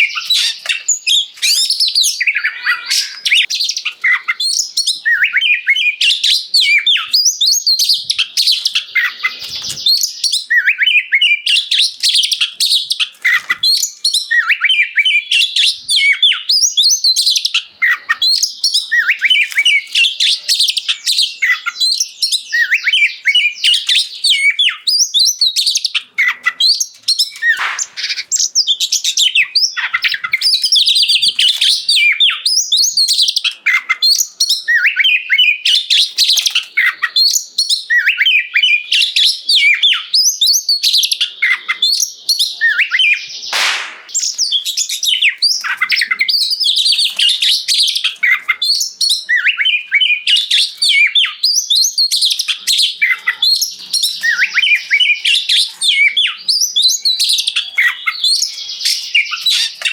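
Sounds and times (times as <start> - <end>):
songbird whistling: 0.0 - 59.9.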